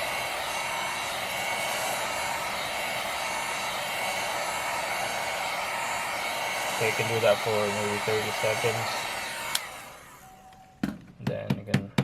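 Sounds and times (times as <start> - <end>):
heat gun hissing: 0.0 - 10.9.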